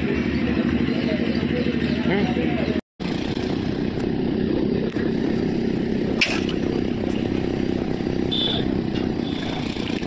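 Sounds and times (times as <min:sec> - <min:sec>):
small engine rumbling: 0:00.0 - 0:10.0.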